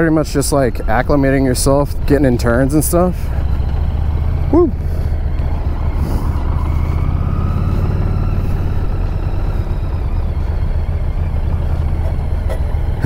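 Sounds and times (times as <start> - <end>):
faint whine: 0.0 - 13.0
motorcycle engine running: 0.0 - 13.0.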